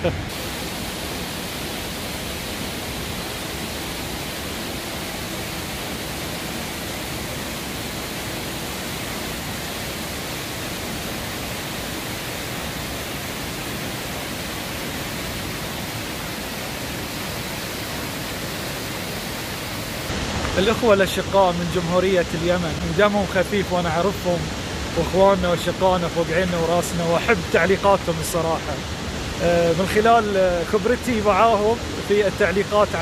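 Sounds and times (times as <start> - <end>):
waterfall rushing into pool: 0.0 - 33.0.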